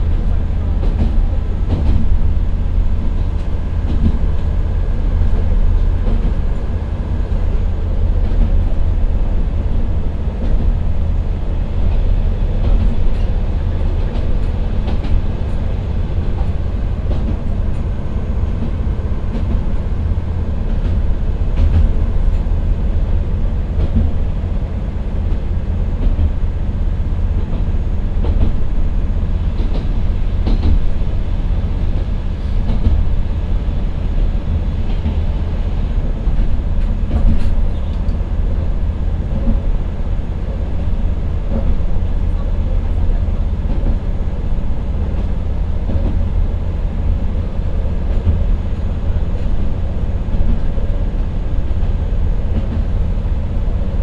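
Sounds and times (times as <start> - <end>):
wheel-on-rail rumble: 0.0 - 54.0.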